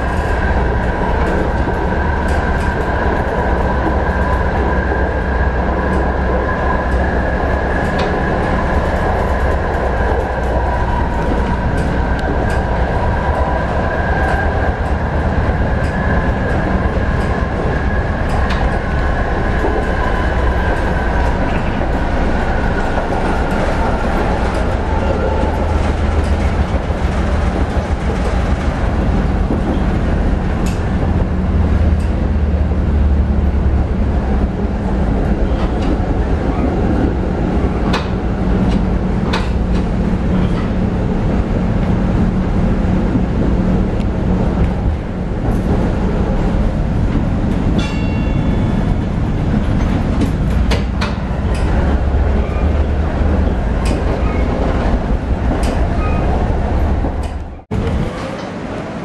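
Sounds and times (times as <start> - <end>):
tram high whine: 0.0 - 59.0
tram rumbling on rails: 0.0 - 59.0.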